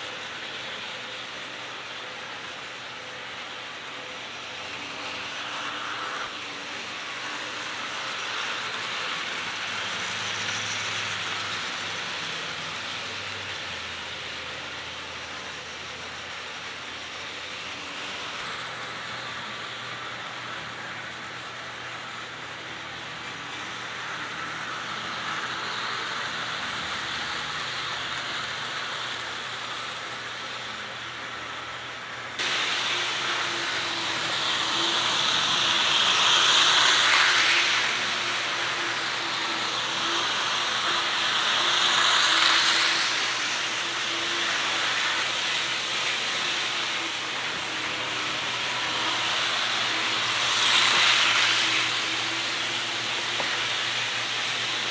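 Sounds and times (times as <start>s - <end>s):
model trains whirring and rattling: 0.0s - 54.9s.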